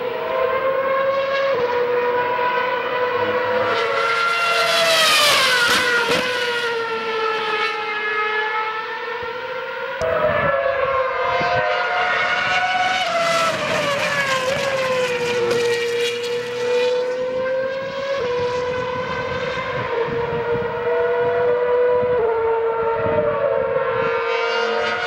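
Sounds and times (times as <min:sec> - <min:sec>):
race car engine whining: 0:00.0 - 0:25.0.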